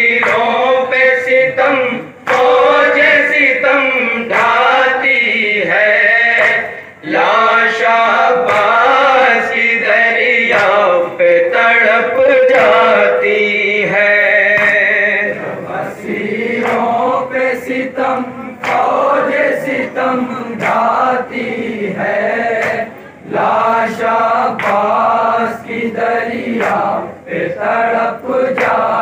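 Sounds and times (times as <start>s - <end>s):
men chanting a lament: 0.0s - 29.0s.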